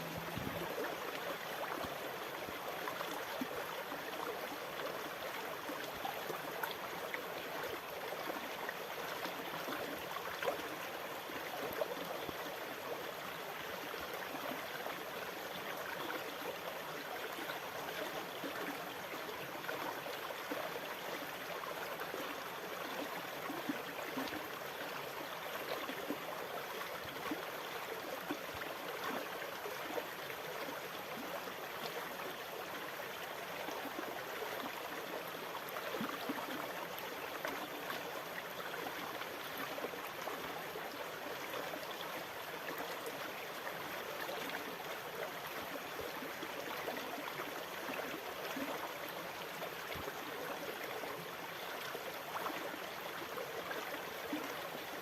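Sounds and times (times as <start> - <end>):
water rushing and trickling: 0.0 - 55.0.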